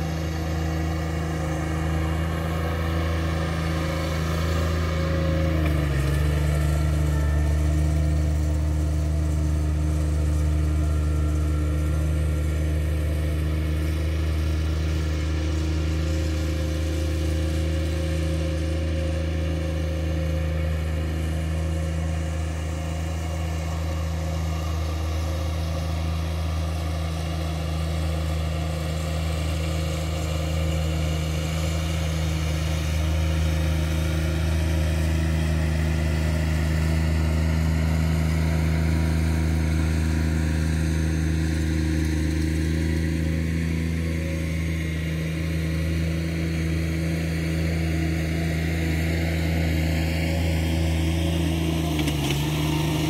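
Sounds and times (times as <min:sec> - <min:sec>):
mower engine running: 0:00.0 - 0:53.0.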